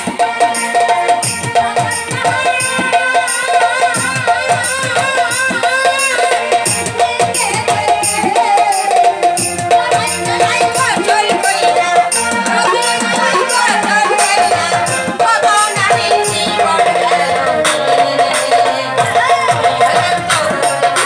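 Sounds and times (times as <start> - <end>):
band with rhythmic percussion: 0.0 - 21.0
woman singing with vibrato: 0.0 - 21.0.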